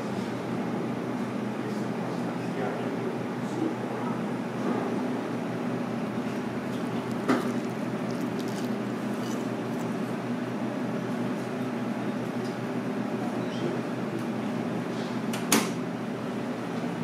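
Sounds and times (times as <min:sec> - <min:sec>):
dining room hum: 0:00.0 - 0:17.0.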